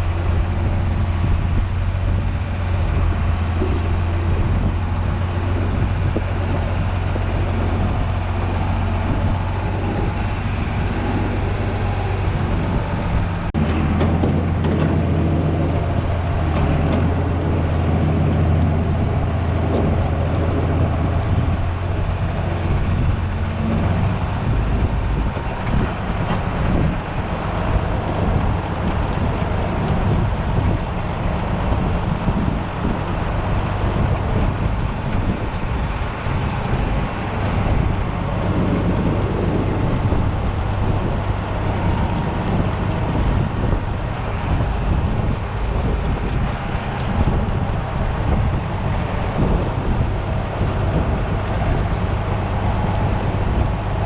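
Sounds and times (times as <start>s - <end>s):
farm machinery droning hum: 0.0s - 54.0s.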